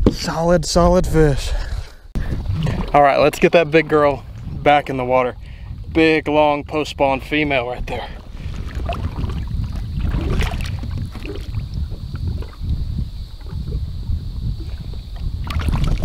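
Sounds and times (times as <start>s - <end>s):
wind rumble on microphone: 0.0s - 16.0s
water splashing against boat: 2.2s - 16.0s.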